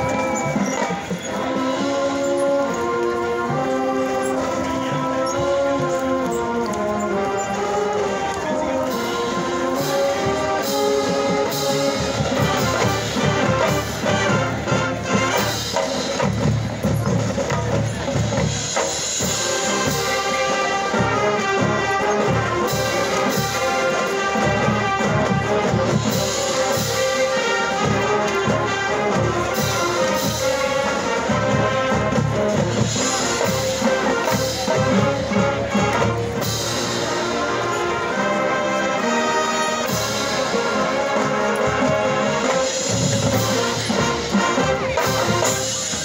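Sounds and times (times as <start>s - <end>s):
marching band playing: 0.0s - 46.0s.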